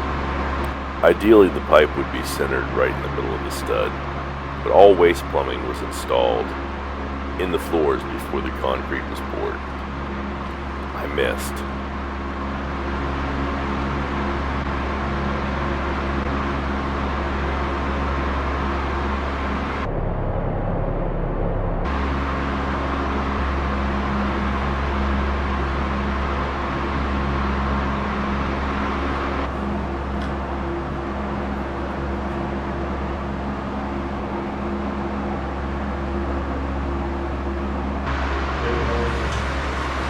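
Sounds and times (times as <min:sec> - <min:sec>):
machine humming: 0:00.0 - 0:15.2, 0:17.6 - 0:40.0.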